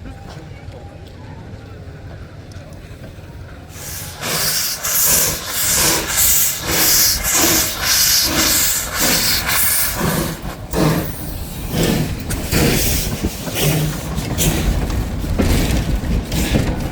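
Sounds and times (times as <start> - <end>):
steam locomotive chuffing: 1.9 - 16.9.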